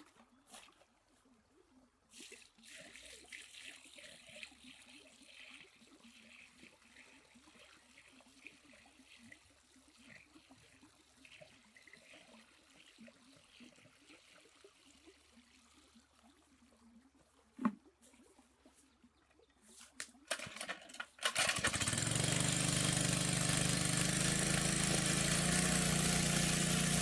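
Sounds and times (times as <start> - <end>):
small water splashes: 0.0 - 27.0
water trickling and lapping: 0.0 - 27.0.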